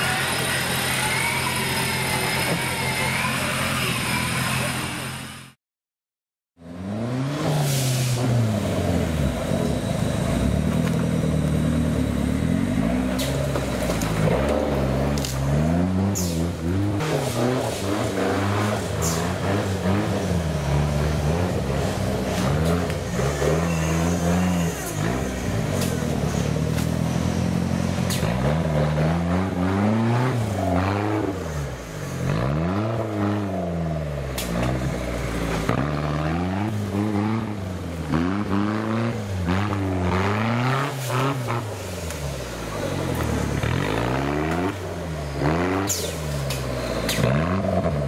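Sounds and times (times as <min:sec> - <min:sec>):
truck engine revving: 0:00.0 - 0:05.6, 0:06.6 - 0:48.0.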